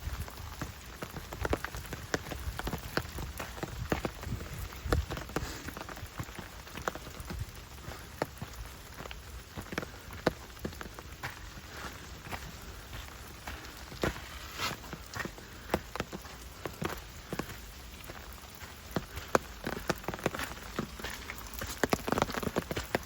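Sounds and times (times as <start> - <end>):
rain pattering: 0.0 - 23.0
raindrops ticking close by: 0.0 - 23.0.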